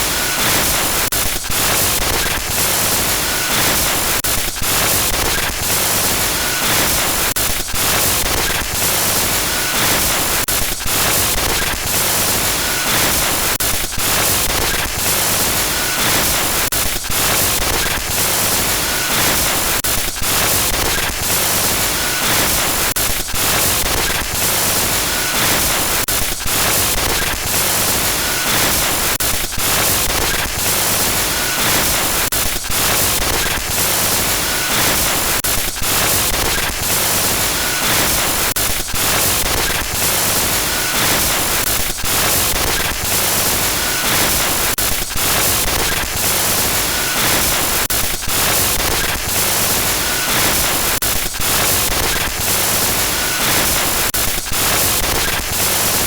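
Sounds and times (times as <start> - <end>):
glitchy static hiss: 0.0 - 56.0.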